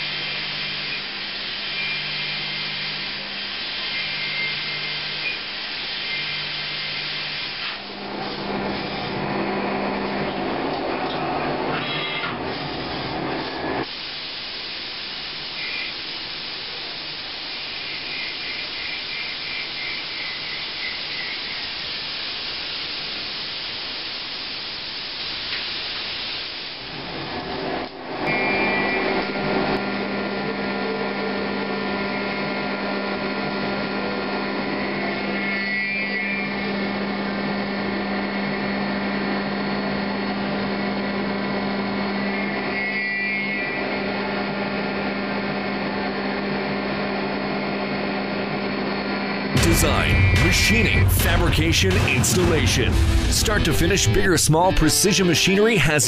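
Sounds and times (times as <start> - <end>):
lathe machine hum and whine: 0.0 - 13.9, 15.0 - 23.6, 26.4 - 50.4.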